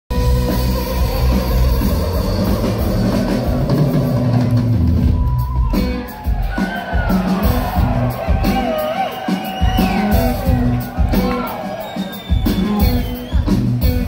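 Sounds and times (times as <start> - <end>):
bass guitar: 0.1 - 14.0
drum kit: 0.1 - 14.0
live jam band playing loudly: 0.1 - 14.0.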